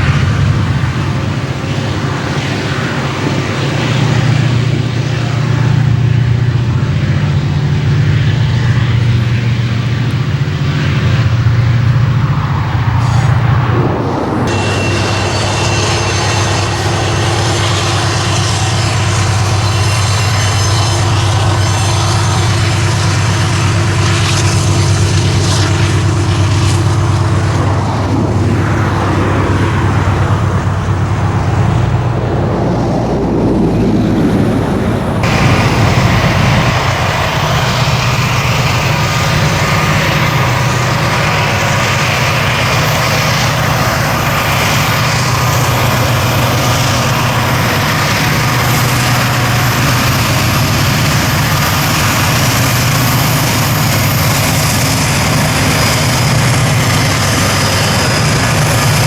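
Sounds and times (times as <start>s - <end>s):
locomotive engine drone: 0.0s - 59.0s
rail noise: 0.0s - 59.0s.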